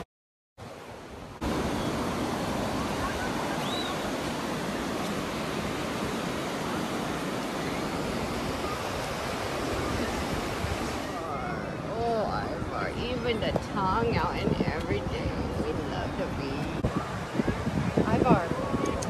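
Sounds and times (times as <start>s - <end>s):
waves breaking on shore: 0.6s - 19.0s
wind rumbling on microphone: 0.6s - 19.0s.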